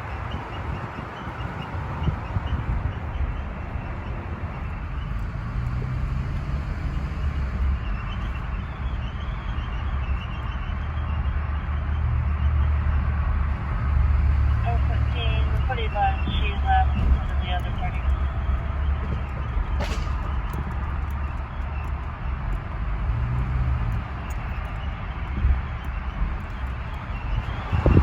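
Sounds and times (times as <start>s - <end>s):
road and drivetrain noise: 0.0s - 28.0s.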